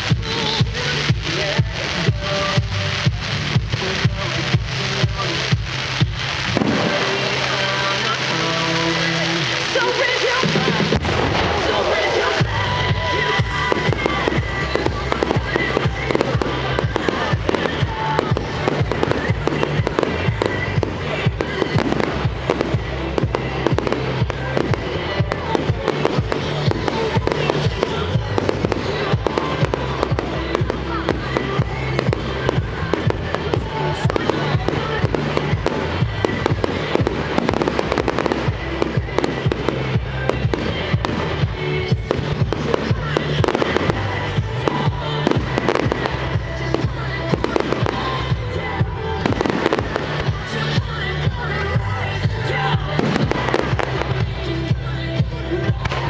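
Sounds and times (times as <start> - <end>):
fireworks bursting and crackling: 0.0 - 56.0
music: 0.0 - 56.0.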